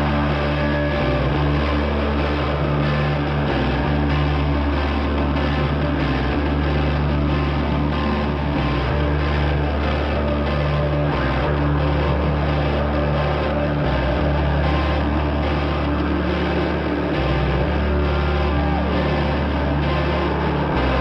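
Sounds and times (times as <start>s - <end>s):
background music with bass line: 0.0s - 21.0s.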